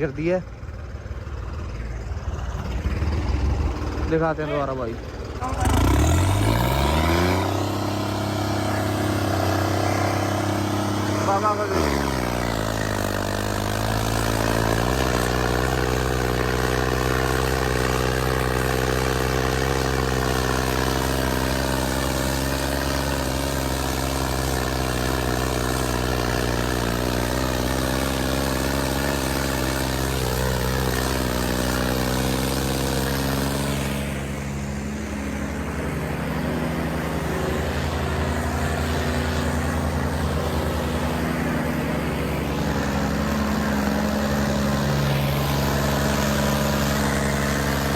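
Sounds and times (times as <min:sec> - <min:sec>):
tractor diesel engines under load: 0:00.0 - 0:47.9.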